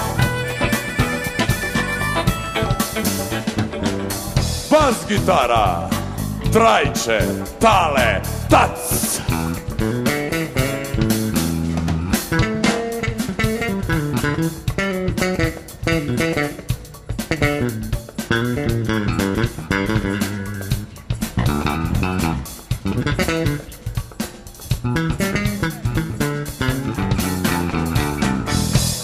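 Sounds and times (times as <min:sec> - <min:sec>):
guitar playing quick runs: 0:00.0 - 0:24.2
bass guitar line: 0:00.0 - 0:29.0.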